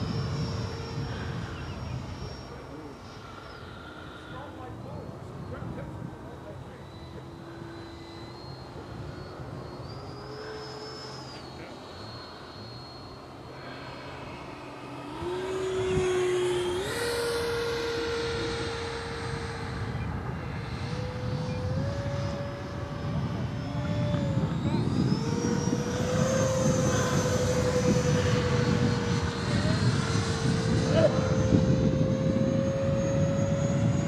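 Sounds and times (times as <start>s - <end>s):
electric fan motor whine: 0.0s - 34.0s.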